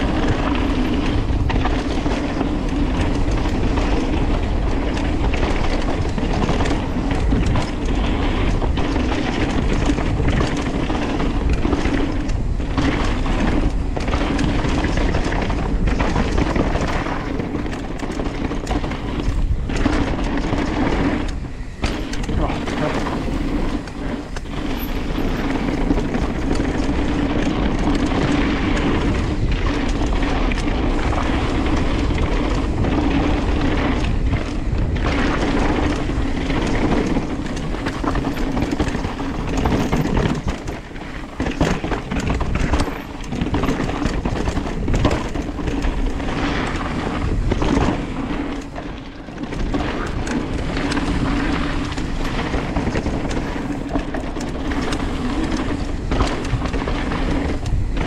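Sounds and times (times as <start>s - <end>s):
bike knocks and rattles: 0.0s - 58.0s
bike tyres rolling over dirt: 0.0s - 58.0s
wind rumbling on microphone: 0.0s - 58.0s.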